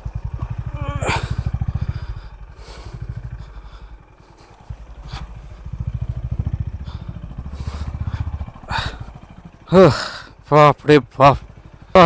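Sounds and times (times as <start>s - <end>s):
motorcycle engine thumping: 0.0s - 9.7s.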